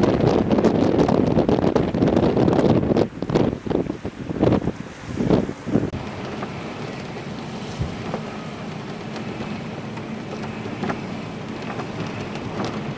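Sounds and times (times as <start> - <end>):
rough lake water: 0.0 - 12.9
wind gusting against microphone: 0.0 - 12.9.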